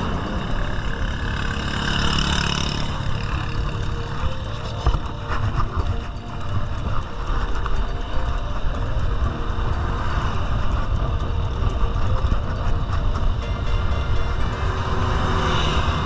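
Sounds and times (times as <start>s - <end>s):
bike road rumble: 0.0s - 16.0s
faint traffic engine hum: 0.0s - 16.0s
wind on microphone: 0.0s - 16.0s.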